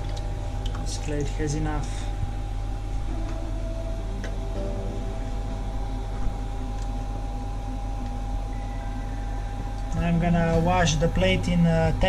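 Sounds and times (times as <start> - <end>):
machine hum with fixed tones: 0.0 - 12.0.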